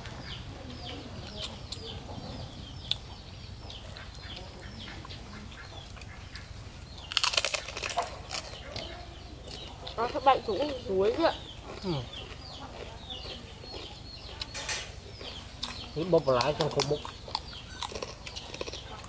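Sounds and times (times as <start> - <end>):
birds chirping: 0.0 - 19.0
crunchy chewing: 1.2 - 19.0.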